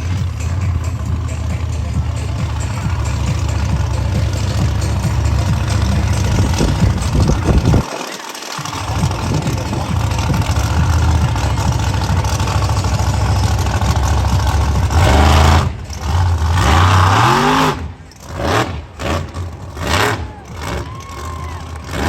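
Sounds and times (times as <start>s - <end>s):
arena noise: 0.0s - 22.0s
monster truck engine revving: 0.0s - 22.0s.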